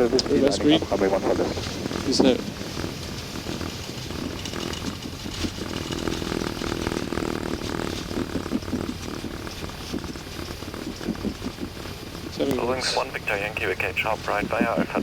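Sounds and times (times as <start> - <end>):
aircraft engine and airflow noise: 0.0 - 15.0.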